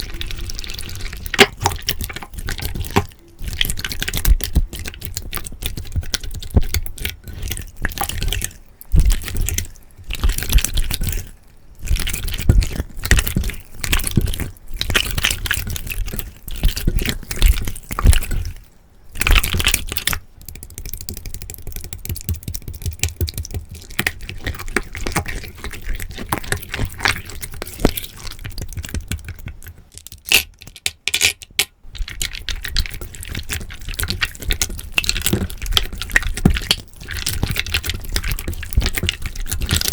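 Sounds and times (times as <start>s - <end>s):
slime squishing by hand: 0.0s - 30.6s, 31.2s - 39.9s.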